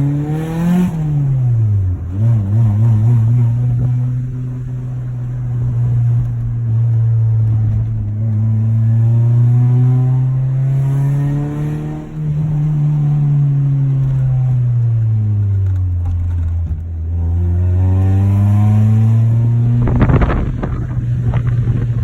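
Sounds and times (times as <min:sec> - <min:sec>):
car engine running under load: 0:00.0 - 0:22.0.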